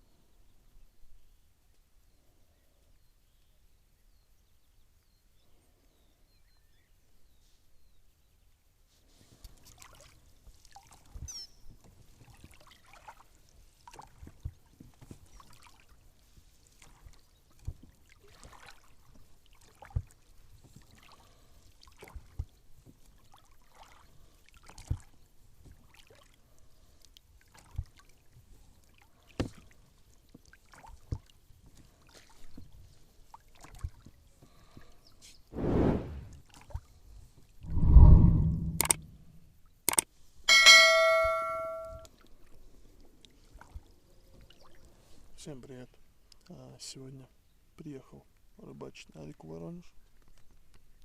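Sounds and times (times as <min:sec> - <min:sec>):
quiet water background: 0:00.0 - 0:51.0.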